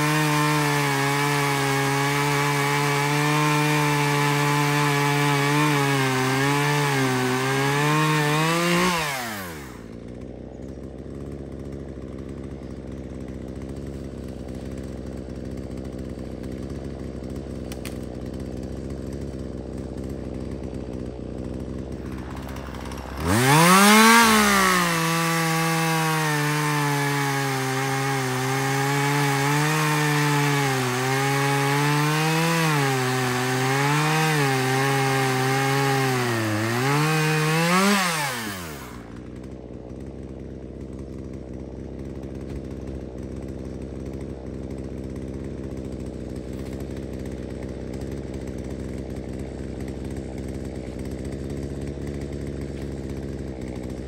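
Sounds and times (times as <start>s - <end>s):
chainsaw cutting wood: 0.0s - 54.0s
chainsaw engine idling and revving: 0.0s - 54.0s.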